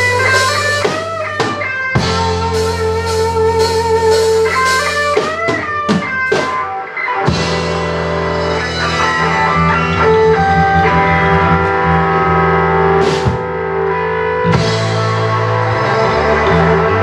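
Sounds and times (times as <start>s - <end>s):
lead guitar bent notes: 0.0s - 17.0s
rock band playing: 0.0s - 17.0s.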